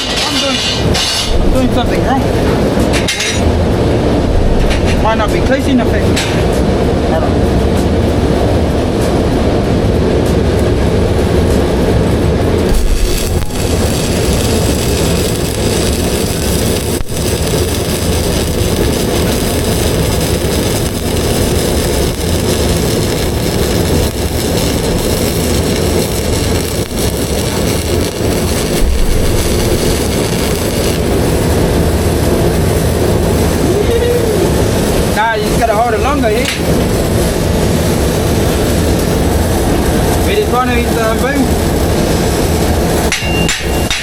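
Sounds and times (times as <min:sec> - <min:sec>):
electric arc welding: 0:00.0 - 0:06.7, 0:10.5 - 0:44.0.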